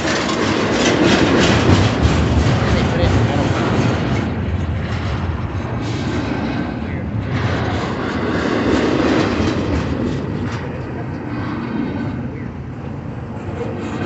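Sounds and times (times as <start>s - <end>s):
freight train wheels rumbling past: 0.0s - 14.0s.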